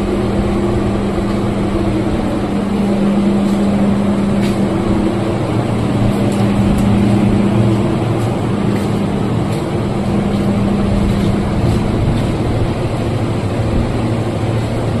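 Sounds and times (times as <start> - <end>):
machine humming and rushing: 0.0 - 15.0.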